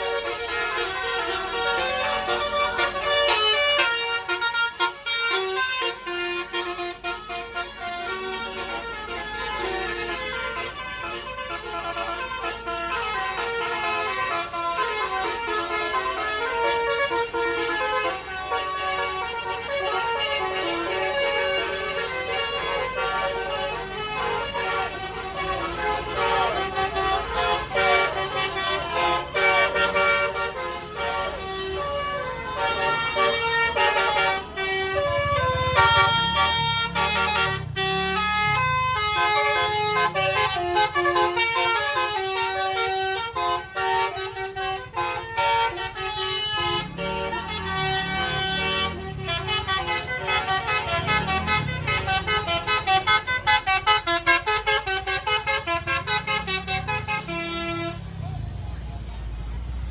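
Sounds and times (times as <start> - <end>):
bus musical air horn melody: 0.0 - 59.8.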